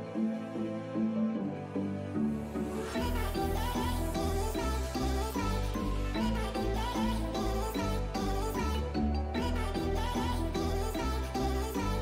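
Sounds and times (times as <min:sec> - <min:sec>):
melody over bass line: 0:02.2 - 0:12.0.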